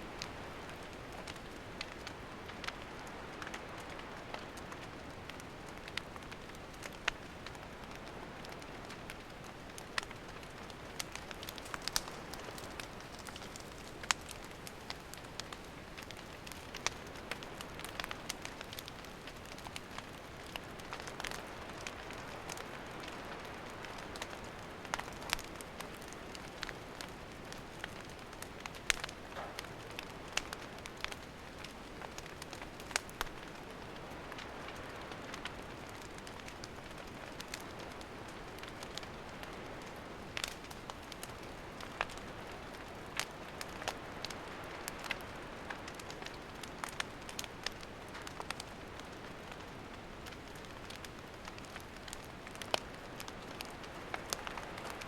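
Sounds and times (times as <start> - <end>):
campfire hissing and crackling: 0.0 - 55.0.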